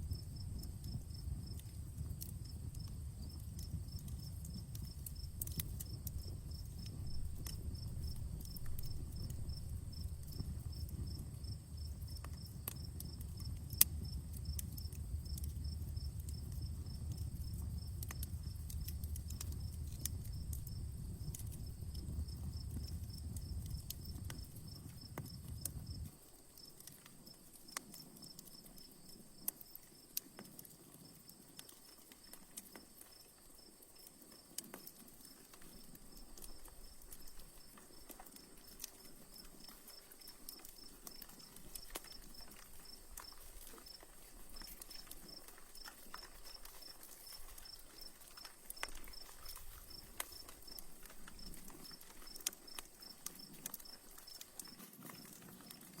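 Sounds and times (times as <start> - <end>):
campfire crackling and popping: 0.0 - 56.0
cricket chirping: 0.0 - 56.0.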